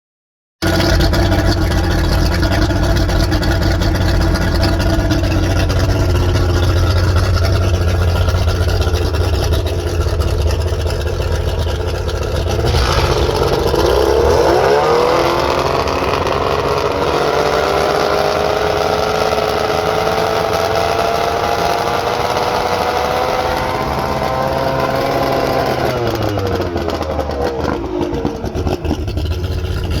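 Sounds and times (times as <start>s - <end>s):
boat engine idling and revving: 0.6s - 30.0s.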